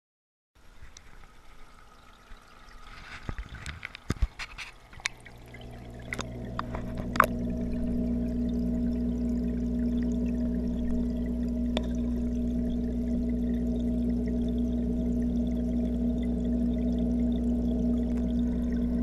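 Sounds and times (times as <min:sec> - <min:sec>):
low hum through water: 0:00.6 - 0:19.0
water trickling and splashing: 0:00.6 - 0:19.0.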